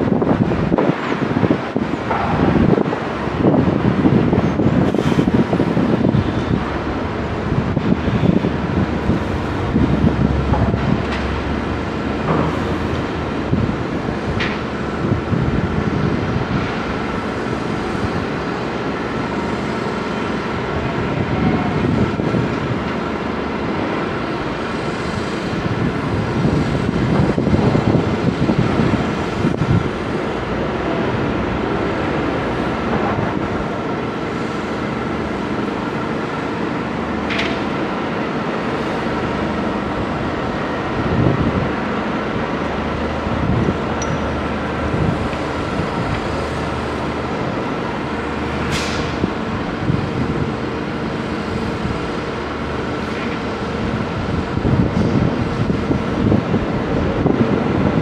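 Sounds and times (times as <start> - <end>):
engines and traffic rumble: 0.0 - 58.0.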